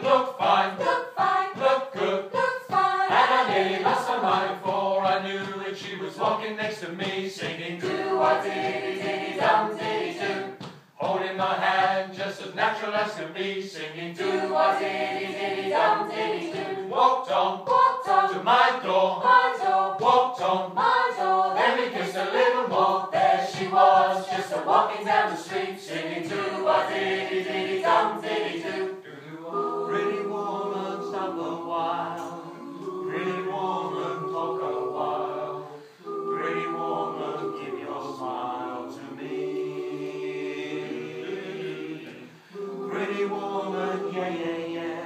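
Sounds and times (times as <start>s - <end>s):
choir singing a cappella: 0.0s - 45.0s.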